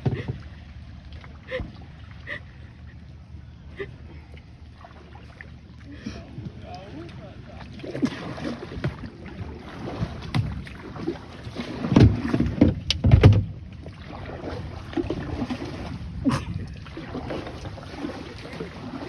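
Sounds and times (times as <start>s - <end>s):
paddle water against hull: 0.0s - 19.0s.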